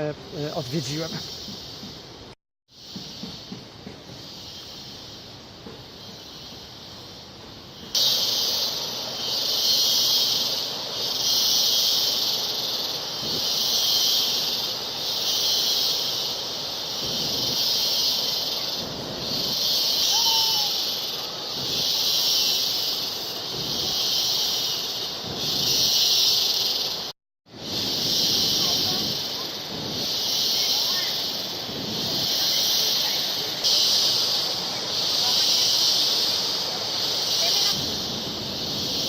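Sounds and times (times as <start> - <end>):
high insect chorus: 0.0 - 39.0.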